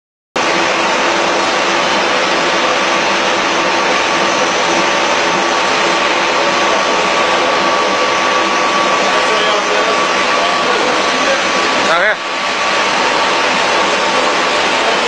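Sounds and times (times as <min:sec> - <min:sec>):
food extruder machine running: 0:00.4 - 0:15.0.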